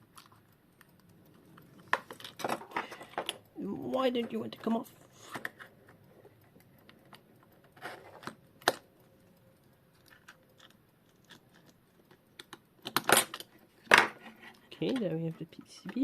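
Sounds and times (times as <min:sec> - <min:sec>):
tools clicking and scraping: 0:00.0 - 0:16.0.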